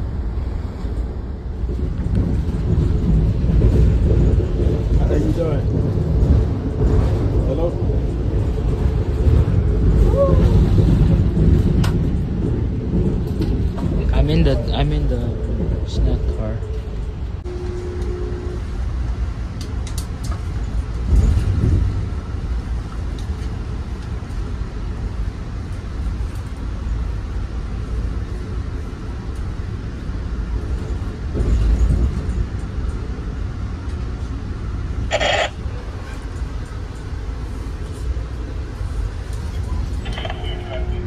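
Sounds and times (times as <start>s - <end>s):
train rumble inside coach: 0.0s - 41.0s.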